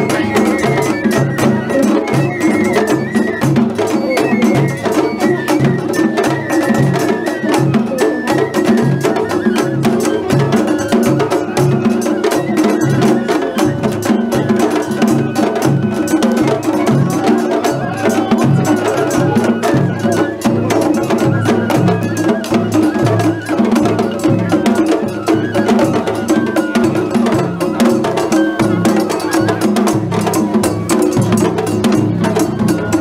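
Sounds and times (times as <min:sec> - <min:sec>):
high bamboo flute melody: 0:00.0 - 0:33.0
taiko drums beating: 0:00.0 - 0:33.0.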